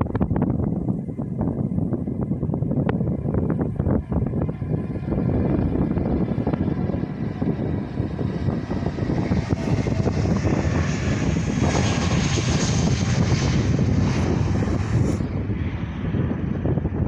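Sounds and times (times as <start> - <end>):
airliner taking off: 0.0 - 17.0.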